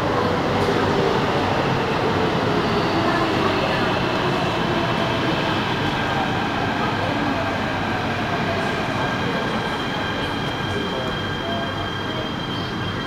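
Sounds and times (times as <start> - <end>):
subway train rolling rumble: 0.0 - 13.0
train high whine: 0.0 - 13.0.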